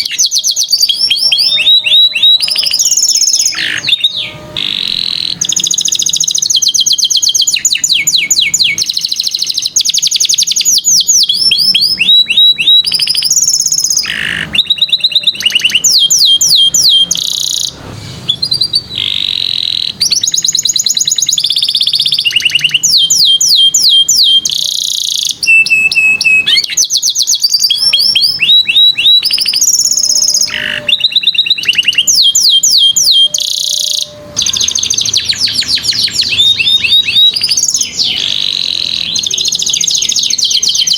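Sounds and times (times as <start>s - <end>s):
canary singing rapid trills: 0.0s - 40.9s.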